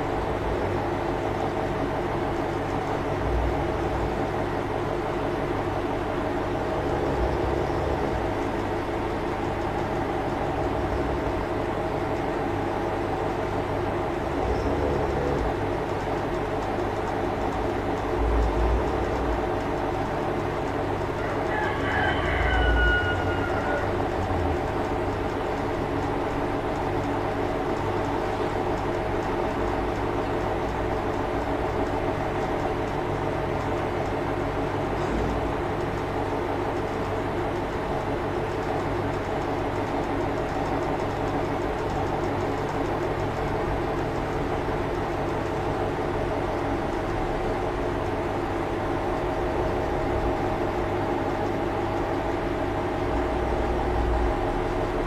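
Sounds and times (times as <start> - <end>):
steady machine-like hum: 0.0 - 55.0.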